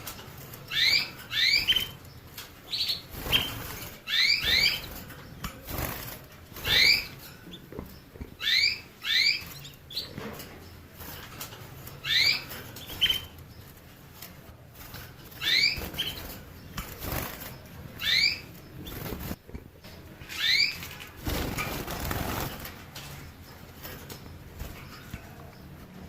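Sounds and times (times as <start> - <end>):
canary chirping: 0.0 - 26.0.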